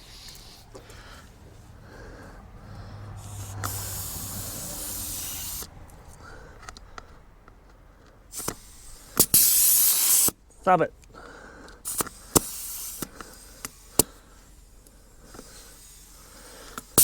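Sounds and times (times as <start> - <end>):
compressed air hissing: 0.0 - 7.2, 8.3 - 10.5, 11.2 - 17.0.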